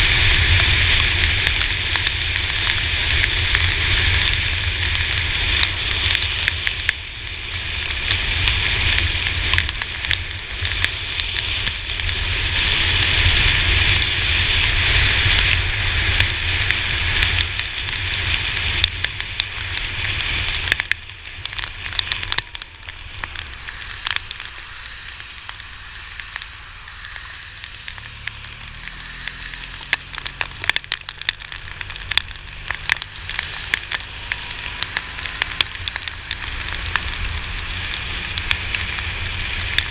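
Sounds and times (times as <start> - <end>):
low wind rumble: 0.0 - 39.9
raindrops ticking on camera housing: 0.0 - 39.9.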